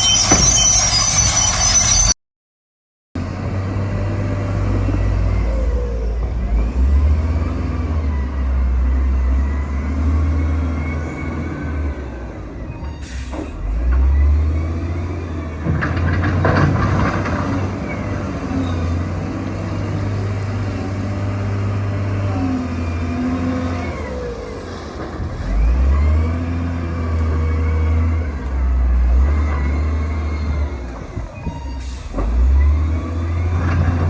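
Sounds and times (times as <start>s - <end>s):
diesel engine revving: 3.2s - 34.0s.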